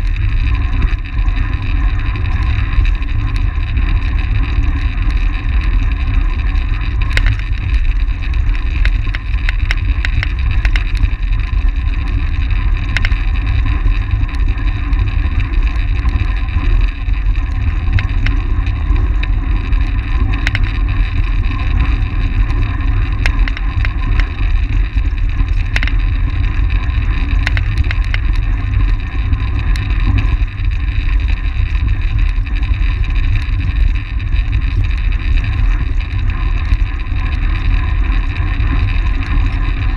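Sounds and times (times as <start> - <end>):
bike whirring: 0.0 - 39.9
wind rumble on microphone: 0.0 - 39.9.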